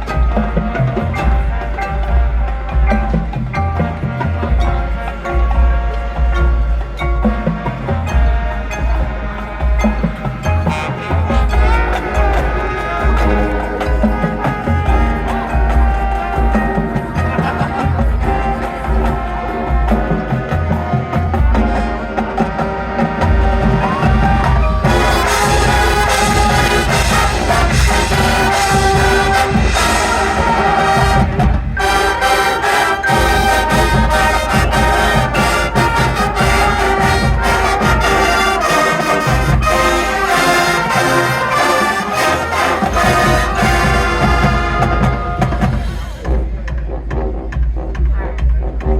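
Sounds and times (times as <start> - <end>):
brass sustained chords: 0.0 - 48.9
marching band playing: 0.0 - 48.9.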